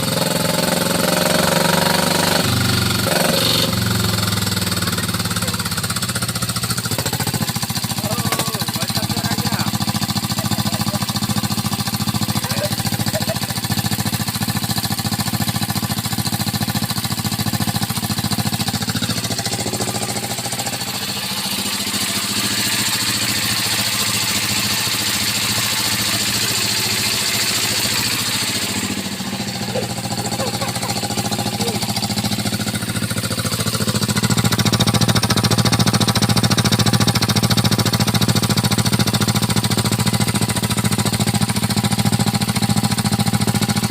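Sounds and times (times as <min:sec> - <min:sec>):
single-cylinder diesel engine running: 0:00.0 - 0:43.9.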